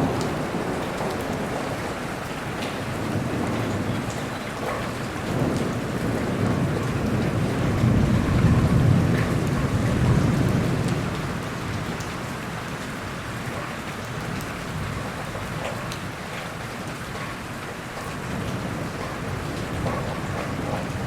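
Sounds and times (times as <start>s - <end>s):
low rumble of thunder: 0.0s - 16.2s, 16.9s - 21.0s
rain falling: 0.0s - 21.0s
raindrop ticks: 0.0s - 21.0s.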